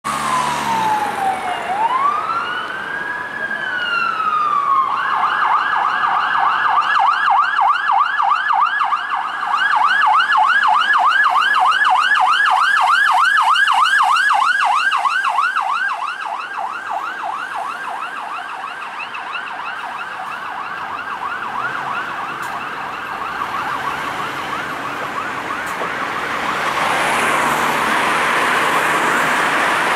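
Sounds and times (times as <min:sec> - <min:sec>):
road traffic noise: 0:00.0 - 0:29.9
siren yelp: 0:00.0 - 0:29.9.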